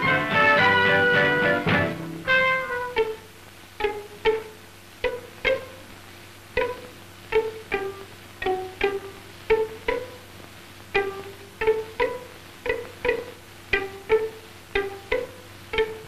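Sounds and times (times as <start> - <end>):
plucked harp-like string melody: 0.0 - 5.8, 6.6 - 10.2, 11.0 - 16.0
faint low hum: 0.0 - 16.0.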